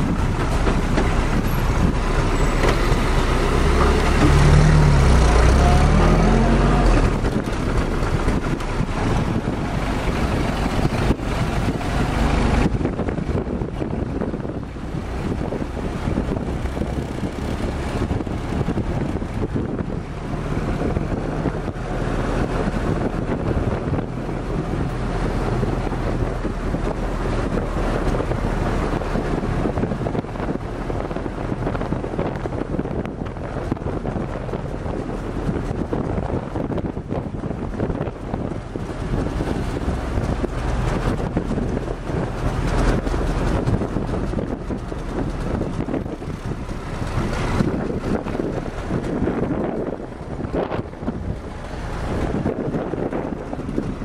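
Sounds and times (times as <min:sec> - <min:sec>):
jeep engine running: 0:00.0 - 0:54.0
wind buffeting microphone: 0:00.0 - 0:54.0.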